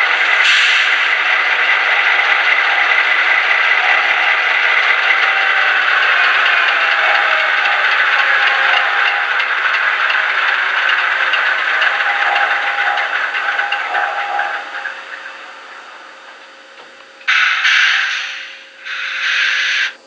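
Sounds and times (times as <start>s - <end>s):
model trains rattling on track: 0.0s - 20.0s.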